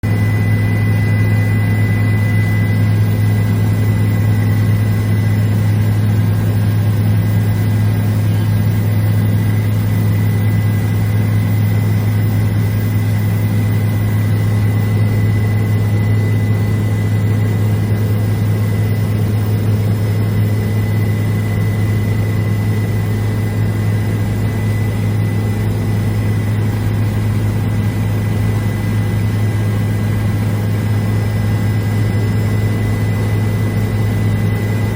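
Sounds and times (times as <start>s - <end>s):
helicopter rotors and engine drone: 0.0s - 34.9s
thin high whine: 0.1s - 34.9s.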